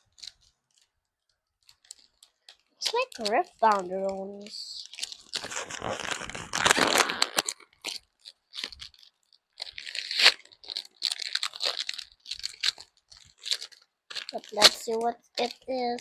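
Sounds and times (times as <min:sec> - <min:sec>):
packaging crinkling and tearing: 0:00.0 - 0:00.9, 0:01.6 - 0:16.0.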